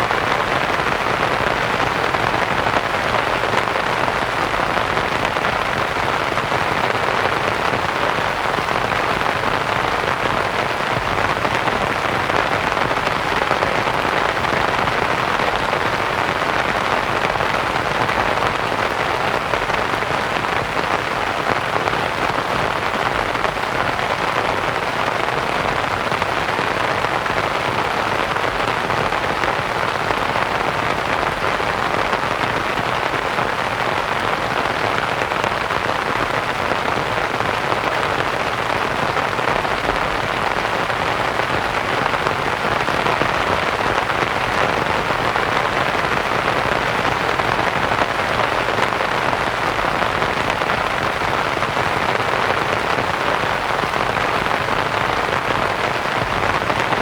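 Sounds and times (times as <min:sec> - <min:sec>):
rain on a canvas tent: 0:00.0 - 0:57.0.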